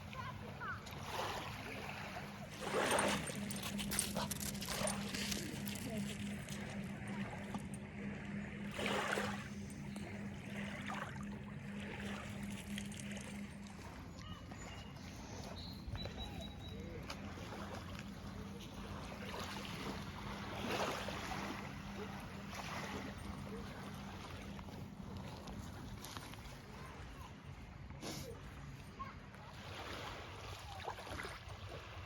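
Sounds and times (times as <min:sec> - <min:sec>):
low hum: 0:00.0 - 0:26.9.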